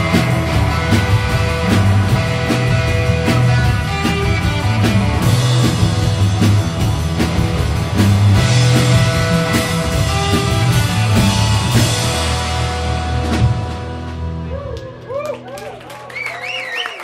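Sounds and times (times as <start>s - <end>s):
steady drum beat: 0.0s - 14.5s
low bass notes: 0.0s - 15.8s
psychedelic rock band playing: 0.0s - 16.3s
guitar: 0.0s - 17.0s.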